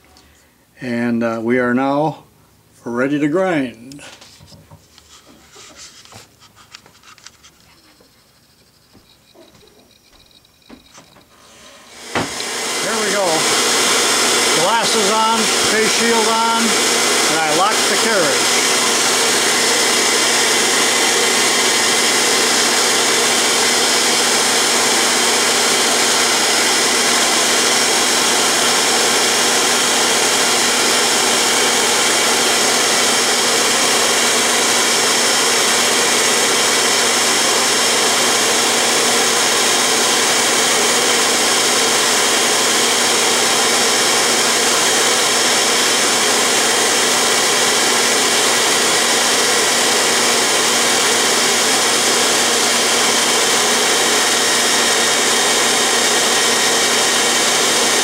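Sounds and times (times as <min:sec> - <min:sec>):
grinder motor whine: 0:07.0 - 0:58.0.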